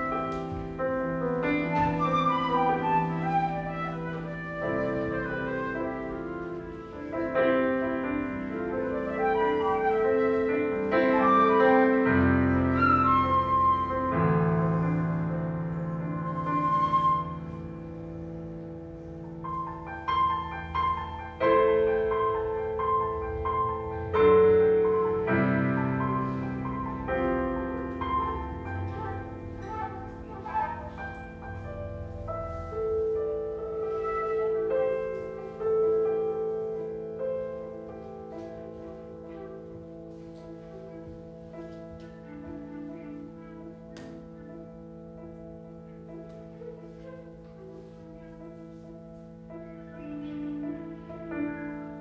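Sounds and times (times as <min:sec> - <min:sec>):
improvised piano playing: 0:00.0 - 0:52.0.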